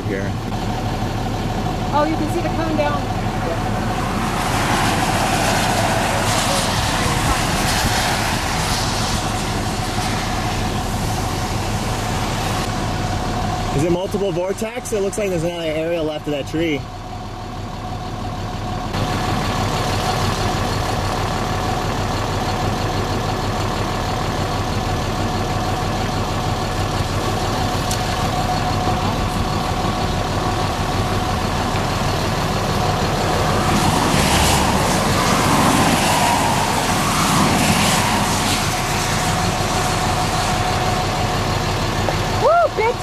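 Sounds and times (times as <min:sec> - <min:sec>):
vehicle engine idling: 0:00.0 - 0:43.0.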